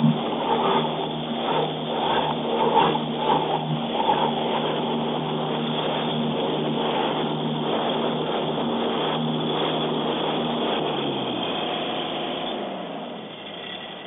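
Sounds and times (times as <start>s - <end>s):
tractor engine and mower running: 0.0s - 14.0s.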